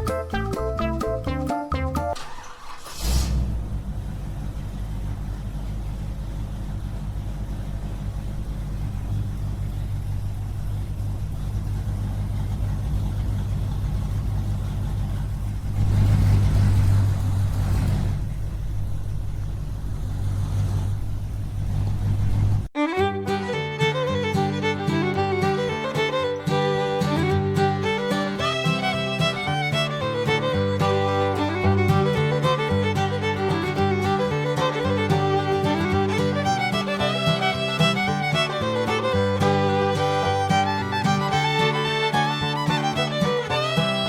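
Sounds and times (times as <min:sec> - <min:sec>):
small engine running: 0:02.3 - 0:44.0.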